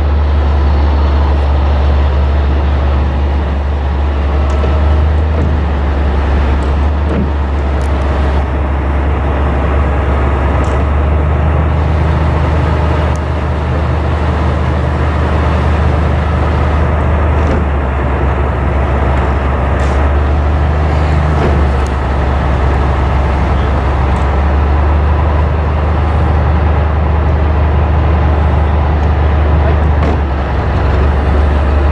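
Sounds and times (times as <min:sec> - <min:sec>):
ship machinery humming: 0:00.0 - 0:31.9.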